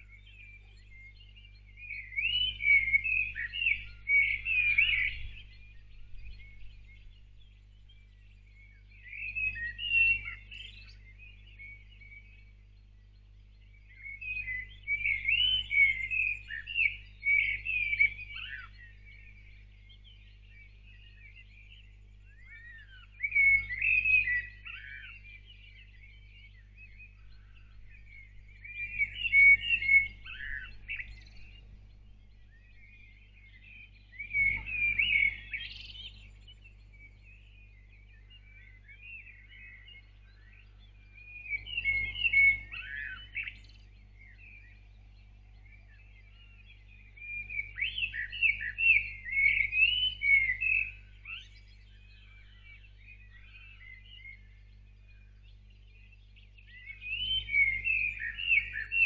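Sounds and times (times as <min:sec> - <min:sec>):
songbird warbling: 0:00.0 - 0:12.7, 0:13.6 - 0:59.0
faint low hum: 0:00.0 - 0:59.0.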